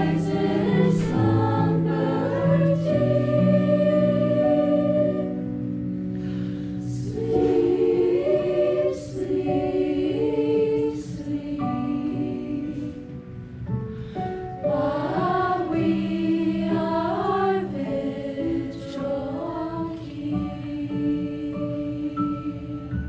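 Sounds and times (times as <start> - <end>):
choir singing: 0.0 - 5.8, 6.8 - 13.3, 14.5 - 23.0.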